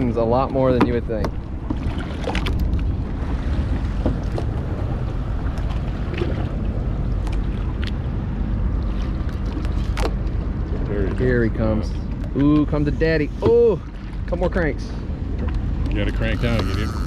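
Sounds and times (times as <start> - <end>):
outboard engines idling: 0.0 - 17.0.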